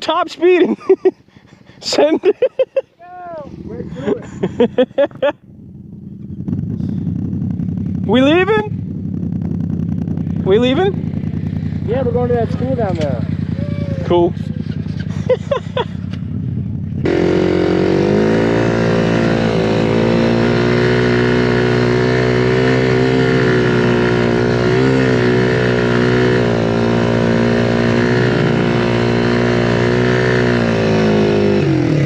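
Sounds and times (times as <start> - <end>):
motorcycle engine pulling: 3.3 - 32.0.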